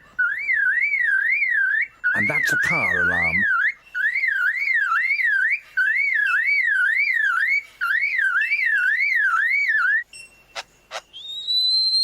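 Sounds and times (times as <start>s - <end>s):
bird mimicking car alarm: 0.2s - 12.0s.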